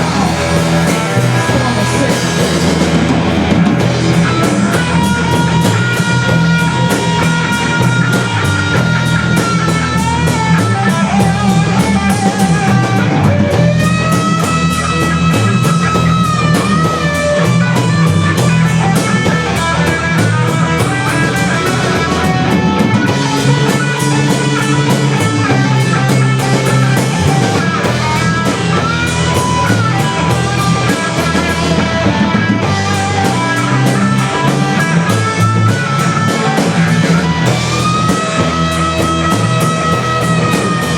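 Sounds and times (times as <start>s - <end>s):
bass guitar: 0.0s - 40.9s
drum kit: 0.0s - 40.9s
lead guitar bending long notes: 0.0s - 40.9s.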